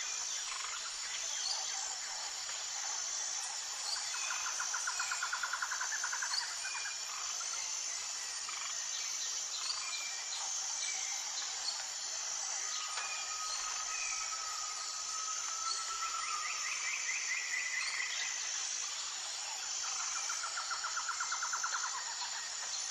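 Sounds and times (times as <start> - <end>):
high-pitched insect drone: 0.0 - 22.9.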